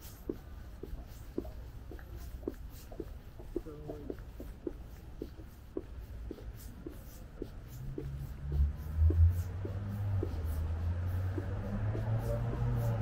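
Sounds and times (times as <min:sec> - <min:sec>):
footsteps walking: 0:00.0 - 0:13.0
low traffic rumble: 0:00.0 - 0:13.0.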